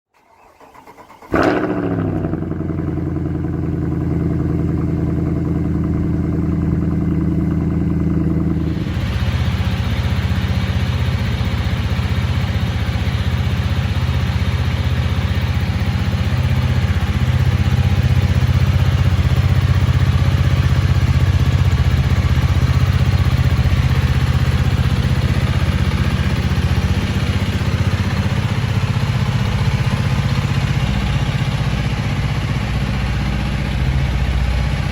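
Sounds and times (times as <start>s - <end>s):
motorcycle engine idling: 1.3s - 34.9s.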